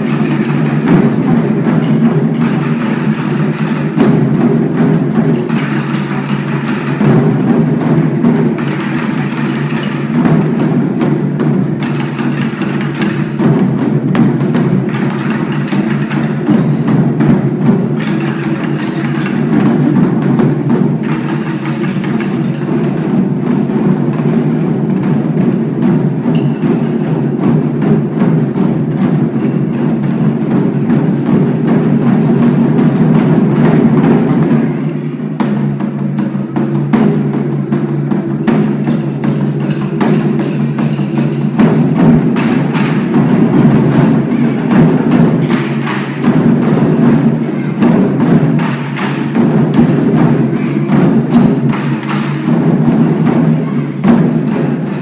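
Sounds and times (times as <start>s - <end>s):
children playing barrel drums: 0.0s - 55.0s.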